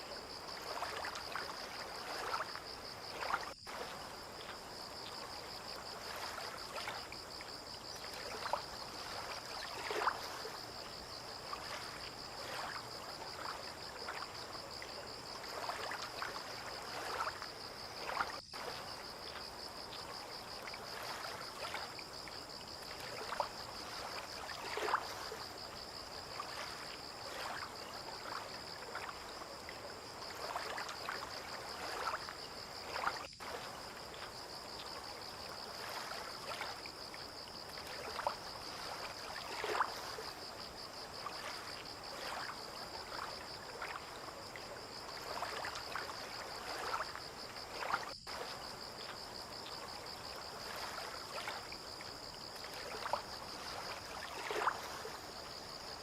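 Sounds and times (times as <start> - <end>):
water lapping and trickling: 0.0 - 56.0.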